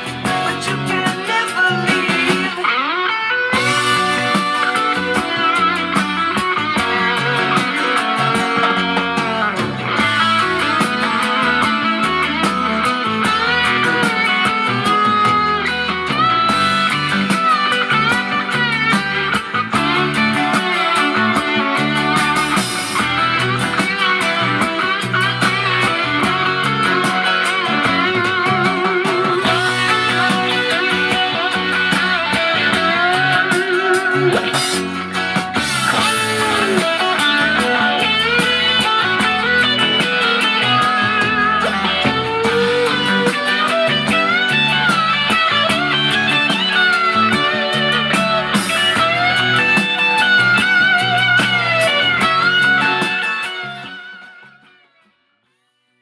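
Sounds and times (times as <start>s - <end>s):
guitar-led band music: 0.0s - 56.0s.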